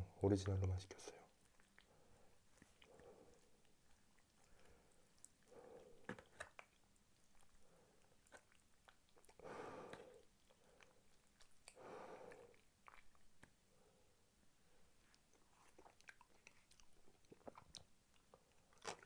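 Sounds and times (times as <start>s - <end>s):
chewing with wet mouth sounds: 0.5s - 19.0s.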